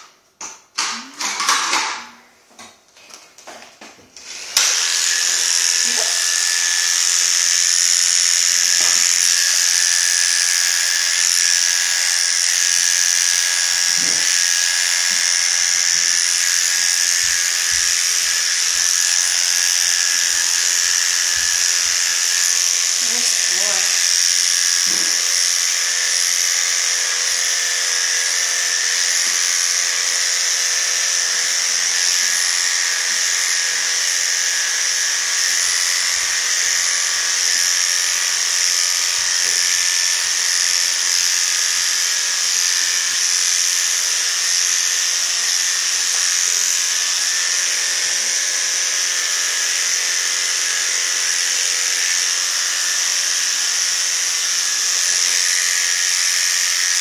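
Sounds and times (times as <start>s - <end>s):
electric clippers buzzing: 0.0s - 2.2s, 3.0s - 57.0s.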